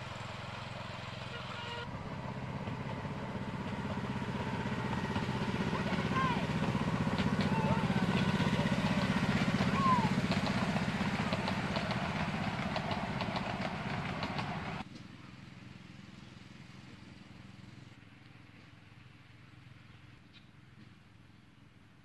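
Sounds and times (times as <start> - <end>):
small engine running: 0.0 - 20.9.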